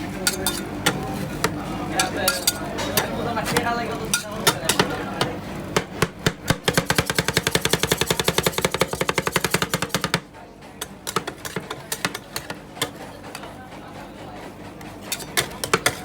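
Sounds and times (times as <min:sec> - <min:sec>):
metal spatulas chopping on steel: 0:00.1 - 0:13.6, 0:14.8 - 0:16.0.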